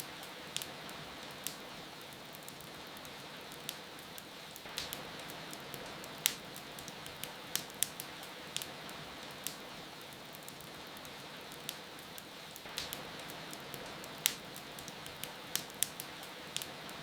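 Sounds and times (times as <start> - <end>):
rain hiss: 0.0 - 17.0
wood fire crackling and popping: 0.0 - 17.0.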